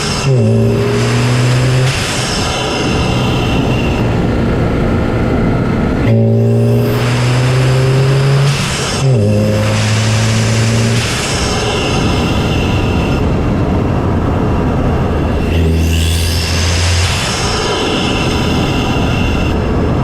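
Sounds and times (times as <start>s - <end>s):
engine intake rushing noise: 0.0s - 19.6s
car engine drone under load: 0.0s - 20.0s.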